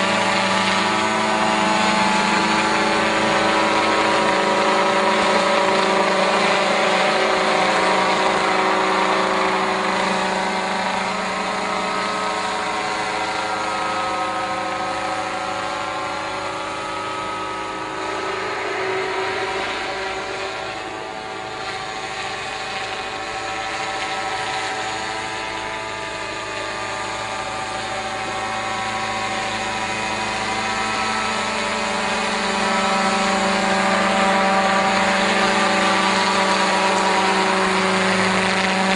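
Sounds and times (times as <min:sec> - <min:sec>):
motorised sprayer humming: 0:00.0 - 0:38.9.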